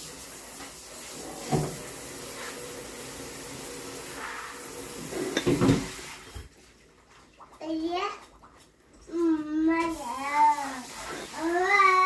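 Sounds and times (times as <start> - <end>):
steady household hum: 0.0 - 12.0.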